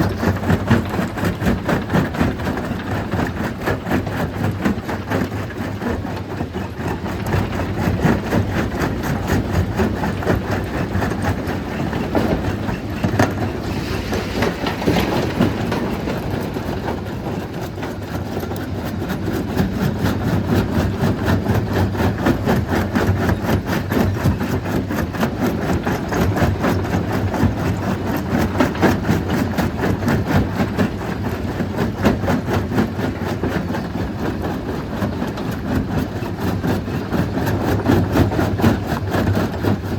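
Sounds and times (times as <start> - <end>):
stone crusher droning: 0.0 - 33.0.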